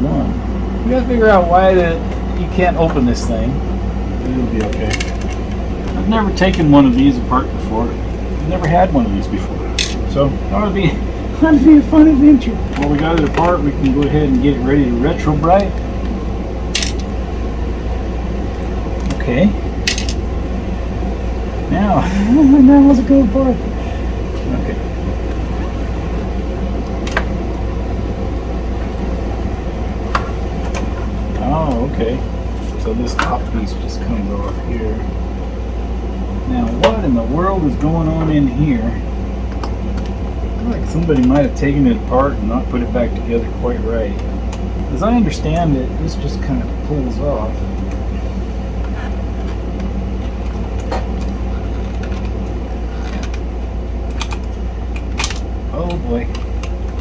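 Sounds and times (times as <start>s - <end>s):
low background hum: 0.0s - 57.0s
low background rumble: 0.0s - 57.0s.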